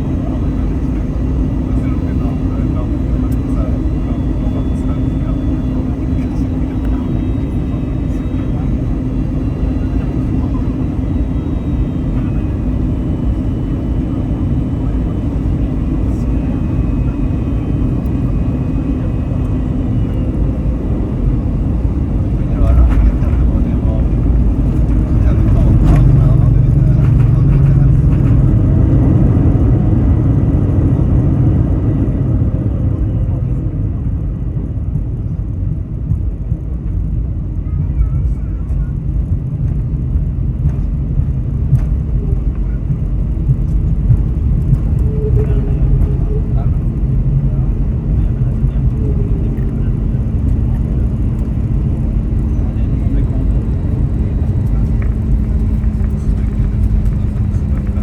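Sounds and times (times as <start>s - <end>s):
faint steady whine: 0.0s - 28.5s, 37.6s - 58.0s
airliner cabin engine rumble: 0.0s - 58.0s.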